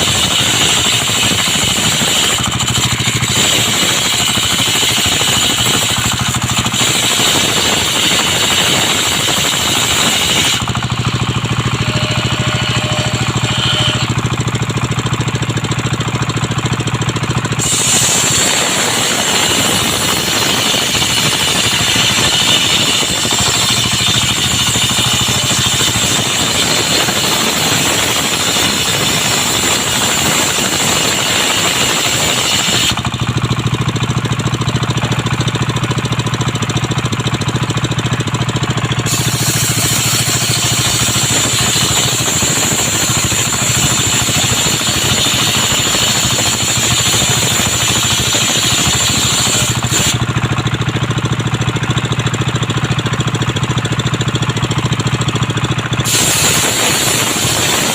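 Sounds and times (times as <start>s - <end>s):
saw blade cutting wood: 0.0s - 57.9s
sawmill machine hum: 0.0s - 57.9s.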